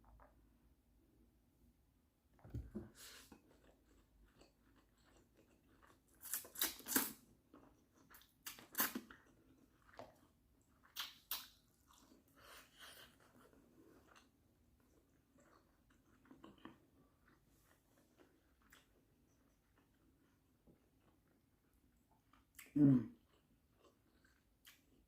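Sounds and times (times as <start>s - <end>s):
chewing and mouth smacking: 3.3s - 25.0s.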